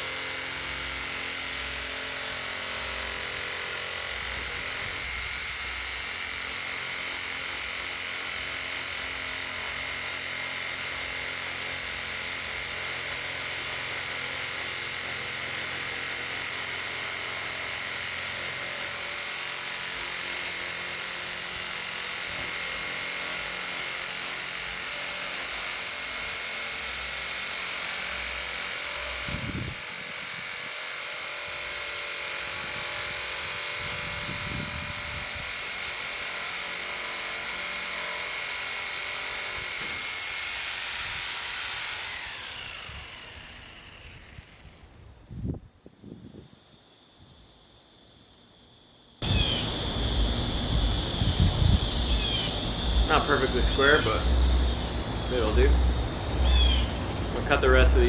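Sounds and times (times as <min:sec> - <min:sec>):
power tool cutting wood: 0:00.0 - 0:45.4, 0:46.7 - 0:58.0.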